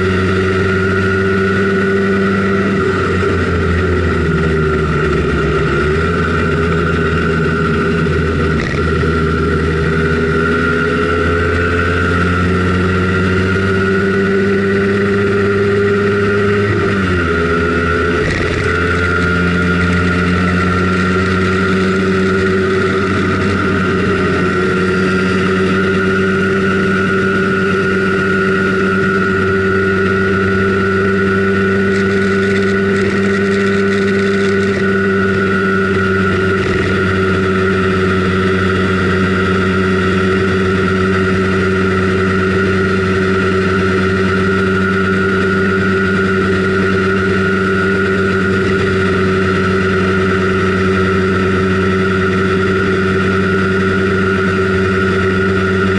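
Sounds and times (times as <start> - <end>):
scooter two-stroke engine running: 0.0 - 55.9.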